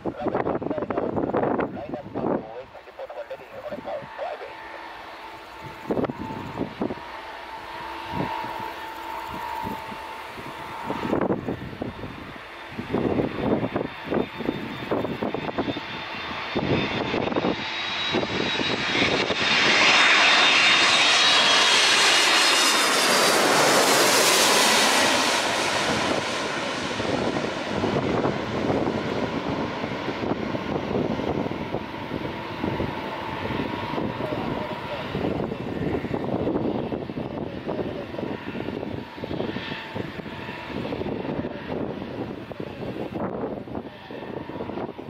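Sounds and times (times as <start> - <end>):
jet engines passing overhead: 0.0 - 45.0.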